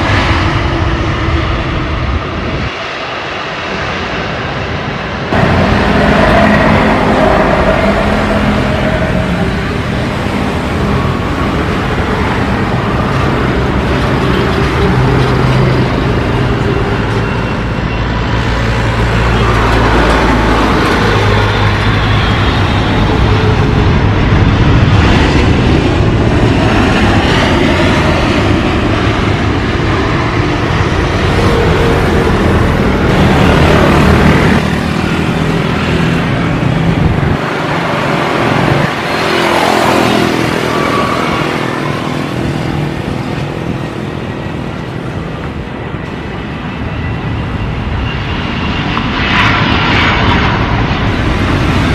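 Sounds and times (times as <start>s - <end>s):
falling jet engine whine: 0.0s - 51.9s
jet engines rumbling: 0.0s - 51.9s.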